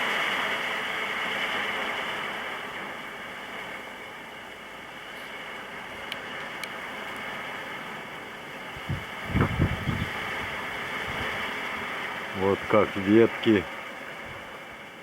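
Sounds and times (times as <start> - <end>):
wind gusting through branches: 0.0 - 15.0.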